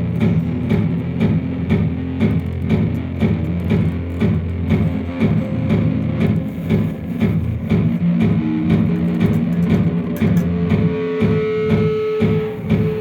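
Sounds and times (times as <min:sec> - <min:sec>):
overdriven electric guitar: 0:00.0 - 0:13.0.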